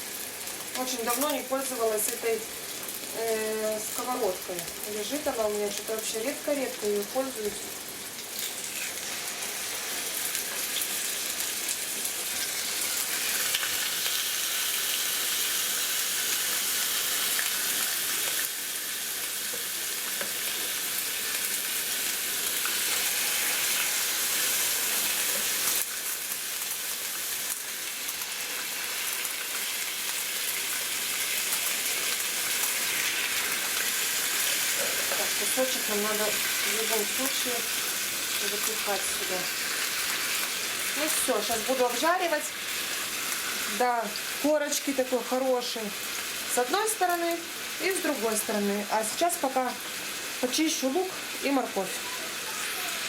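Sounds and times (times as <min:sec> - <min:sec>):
meat sizzling in a frying pan: 0:00.0 - 0:53.0.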